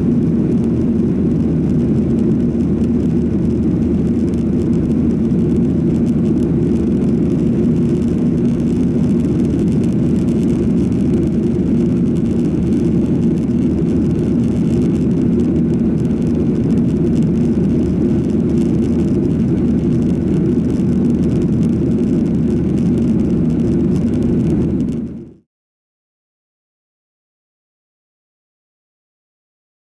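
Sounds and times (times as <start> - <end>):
airliner cabin engine noise: 0.0 - 25.4.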